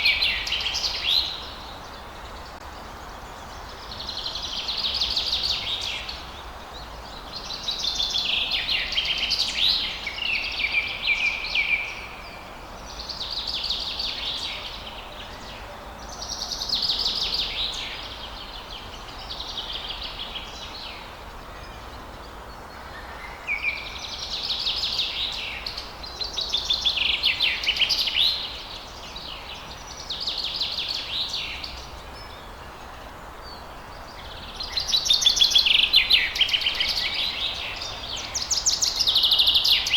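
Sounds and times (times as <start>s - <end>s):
faint steady hiss: 0.0s - 39.9s
songbirds chirping: 0.0s - 39.9s.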